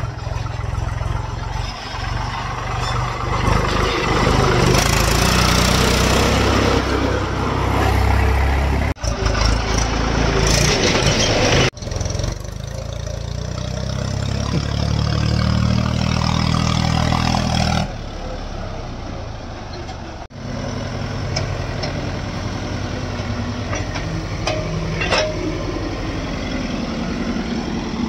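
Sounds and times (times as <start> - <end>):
heavy diesel engine under load: 0.0 - 28.0.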